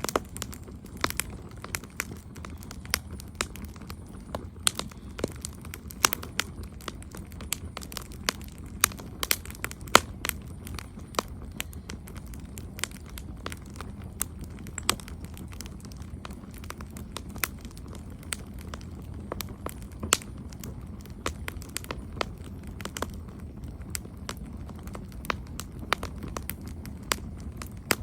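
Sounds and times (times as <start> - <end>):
campfire crackling and popping: 0.0 - 28.0
low steady rumble: 0.0 - 28.0.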